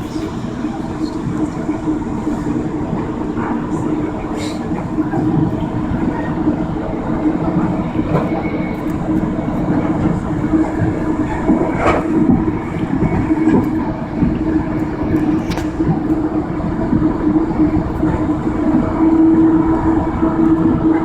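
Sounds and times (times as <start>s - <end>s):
train rumble and hum: 0.0s - 21.0s.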